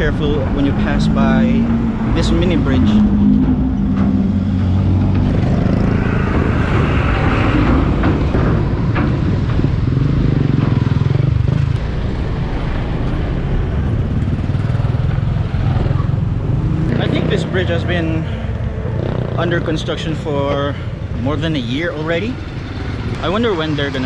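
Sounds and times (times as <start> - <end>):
cars passing: 0.0 - 24.0
motorcycles passing: 0.0 - 24.0.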